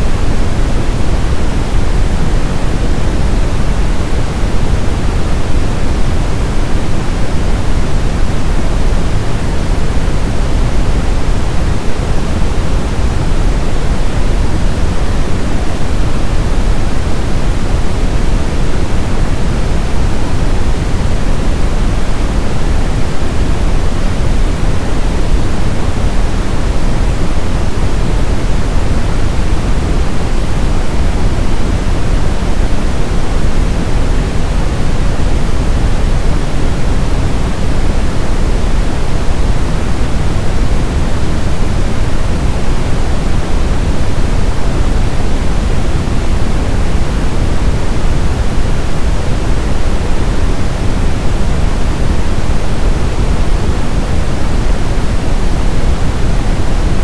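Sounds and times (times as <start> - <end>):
synthetic brown noise hiss-rumble: 0.0 - 57.0.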